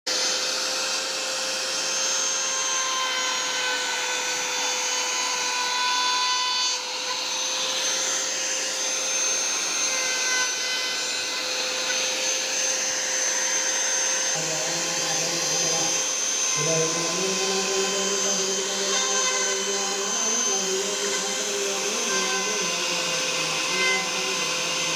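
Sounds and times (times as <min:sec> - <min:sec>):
power tool motor whine: 0:00.1 - 0:24.9.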